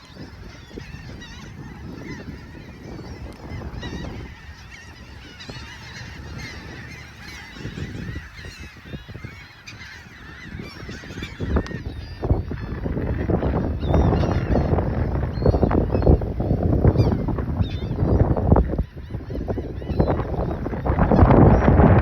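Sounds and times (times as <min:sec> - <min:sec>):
seagulls squawking: 0:00.0 - 0:22.0.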